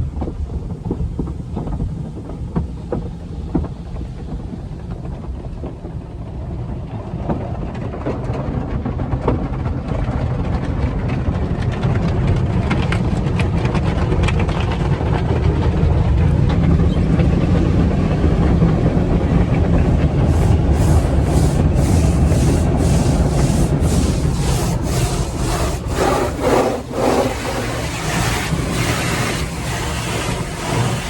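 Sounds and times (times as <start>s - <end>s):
car wash low rumble: 0.0s - 31.0s.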